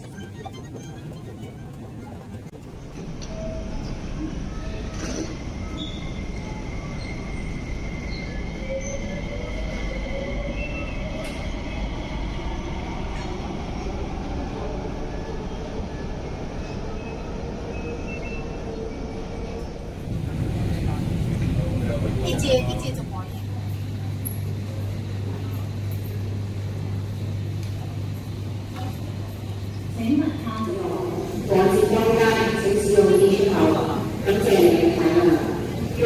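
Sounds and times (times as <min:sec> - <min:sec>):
metro train rumbling and whining: 0:00.0 - 0:36.0.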